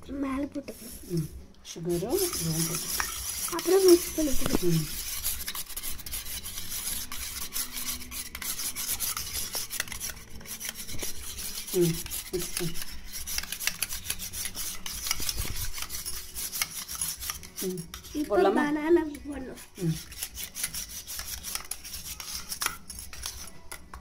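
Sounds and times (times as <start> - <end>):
spoon scraping a metal bowl: 0.6 - 24.0.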